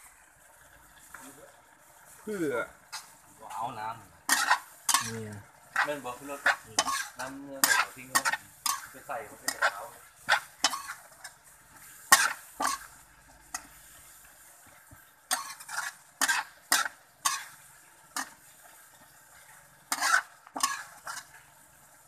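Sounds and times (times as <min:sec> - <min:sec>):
food sizzling in a pan: 0:00.0 - 0:22.0
metal spatula scraping a wok: 0:04.2 - 0:22.0.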